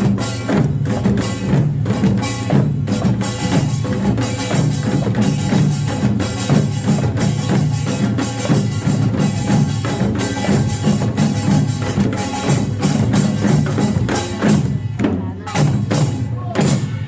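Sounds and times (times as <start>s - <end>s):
gongs and drums band playing: 0.0s - 17.0s.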